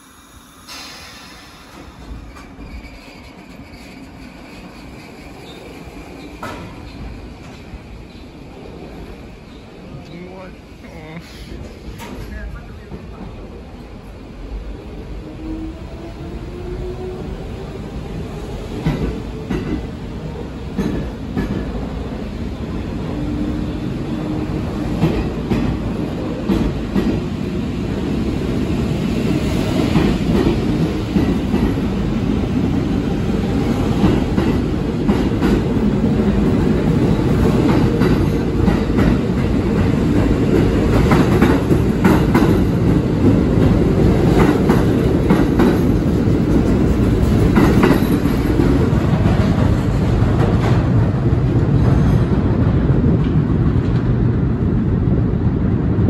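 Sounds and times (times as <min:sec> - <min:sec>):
subway train rumbling: 0:00.0 - 0:56.0.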